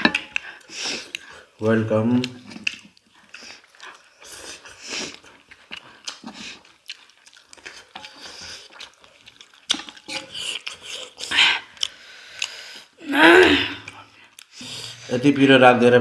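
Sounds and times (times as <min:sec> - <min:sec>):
wet chewing and slurping: 0:00.0 - 0:13.0, 0:13.7 - 0:15.1.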